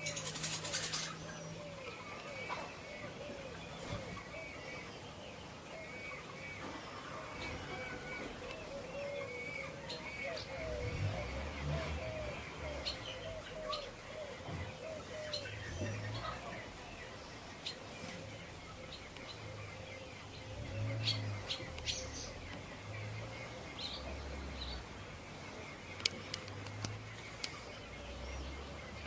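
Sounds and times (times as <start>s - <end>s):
low outdoor rumble: 0.0s - 29.0s
small birds chirping: 0.0s - 29.0s.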